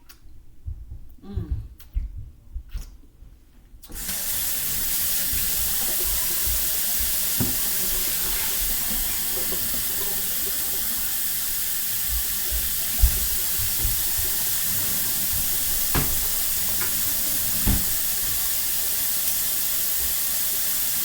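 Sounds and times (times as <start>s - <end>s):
steady hiss: 3.9s - 21.0s.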